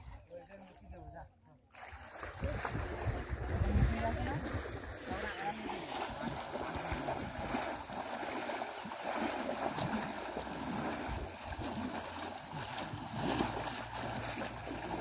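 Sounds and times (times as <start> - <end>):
muddy water splashing: 1.7 - 15.0.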